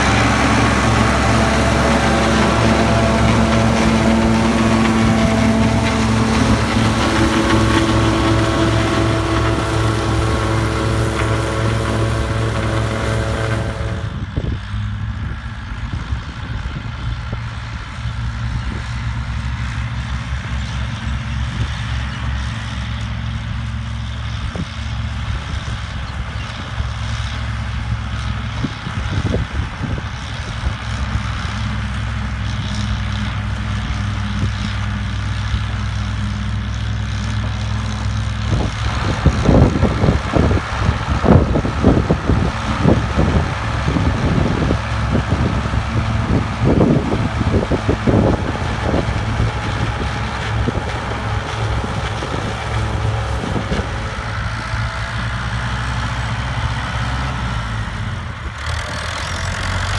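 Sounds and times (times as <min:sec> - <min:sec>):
diesel tractors running: 0:00.0 - 0:59.9
forage choppers cutting grass: 0:00.0 - 0:59.9.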